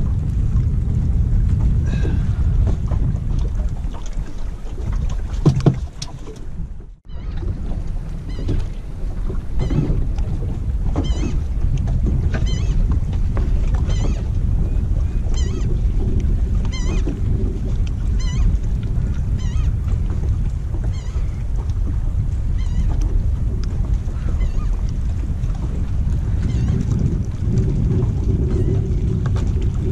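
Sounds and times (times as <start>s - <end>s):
water around boat: 0.0s - 29.9s
wind rumble on microphone: 0.0s - 29.9s.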